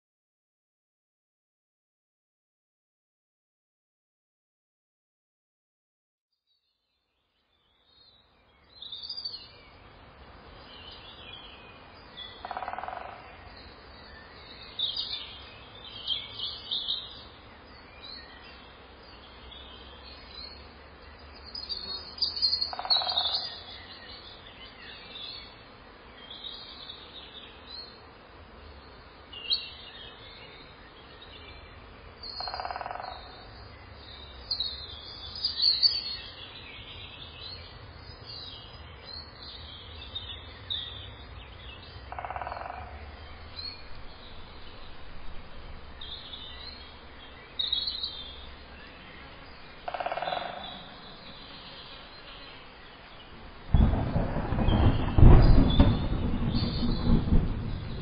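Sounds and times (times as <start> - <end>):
birds chirping: 7.6 - 58.0.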